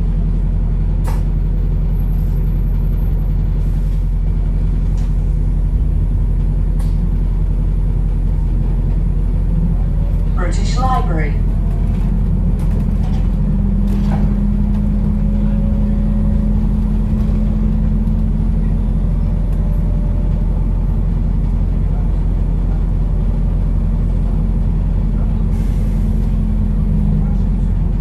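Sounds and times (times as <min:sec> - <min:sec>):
bus drivetrain and road drone: 0:00.0 - 0:28.0.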